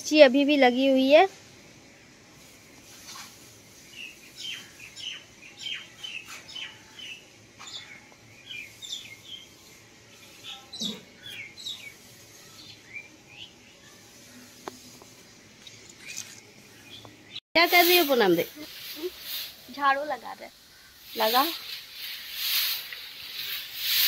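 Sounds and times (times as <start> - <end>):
small birds chirping: 2.8 - 24.0.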